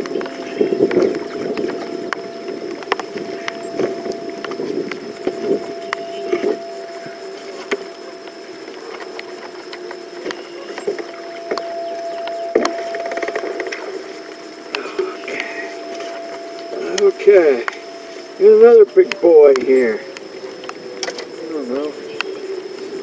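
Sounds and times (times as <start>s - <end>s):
steady boat hum: 0.0s - 23.0s.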